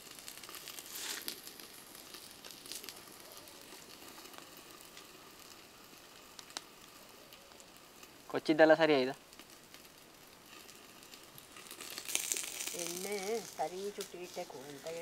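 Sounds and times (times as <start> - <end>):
faint hiss with crackles: 0.0 - 15.0.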